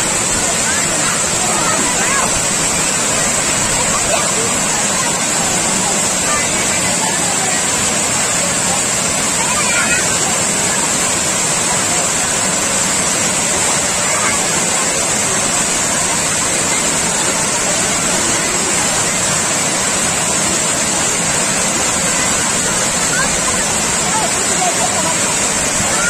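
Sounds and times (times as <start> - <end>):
water rushing over a dam: 0.0 - 26.0.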